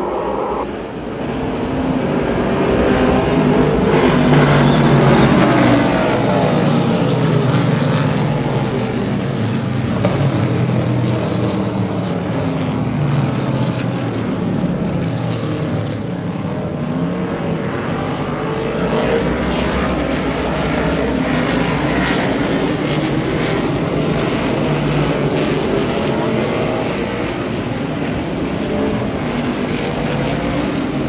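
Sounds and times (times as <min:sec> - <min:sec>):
race car engines at full throttle: 0:00.0 - 0:31.0.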